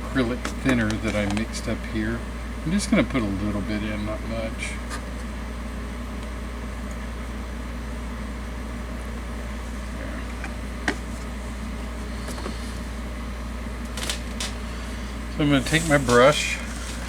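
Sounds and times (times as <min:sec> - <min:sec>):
low hum with light hiss: 0:00.0 - 0:17.0.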